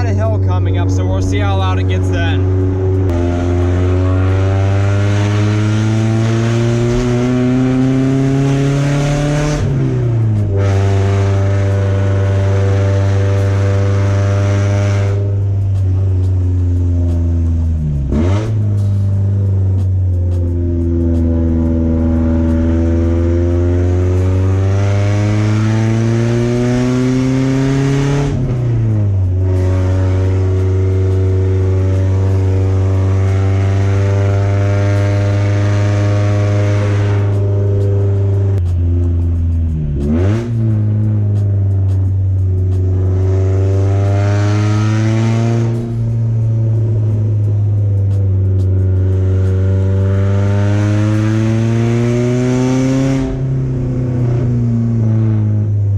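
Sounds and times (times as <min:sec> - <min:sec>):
loud car engine revving: 0:00.0 - 0:55.9.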